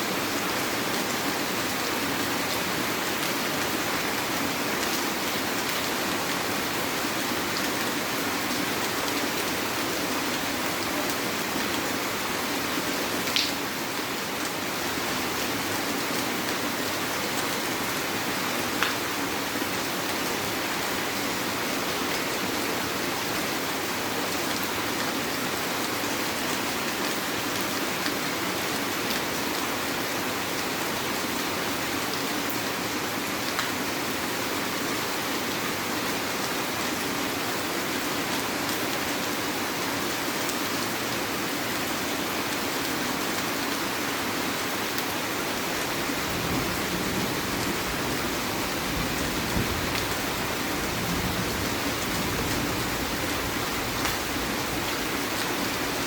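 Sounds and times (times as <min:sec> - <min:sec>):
heavy rain falling: 0:00.1 - 0:56.0.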